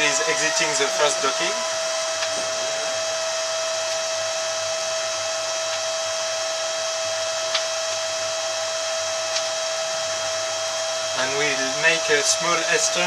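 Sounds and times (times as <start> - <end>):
constant high hum: 0.0 - 13.0
electric shuttle whirring hiss: 0.0 - 13.0.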